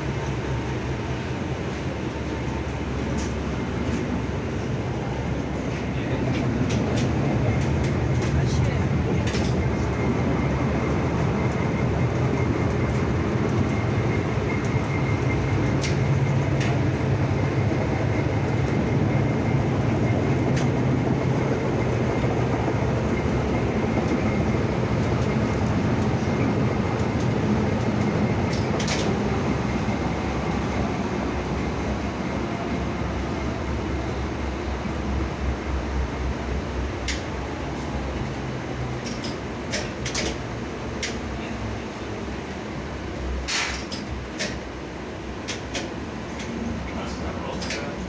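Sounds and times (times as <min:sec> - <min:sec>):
tram wheels and motors rumbling: 0:00.0 - 0:48.0.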